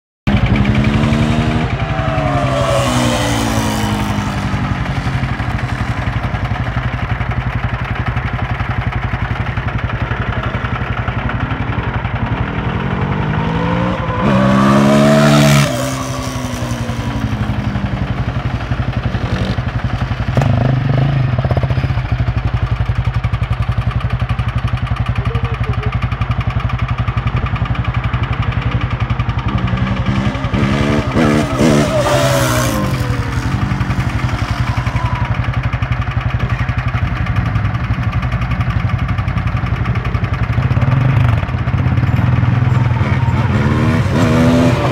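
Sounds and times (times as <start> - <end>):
quad engines running: 0.3 - 44.9.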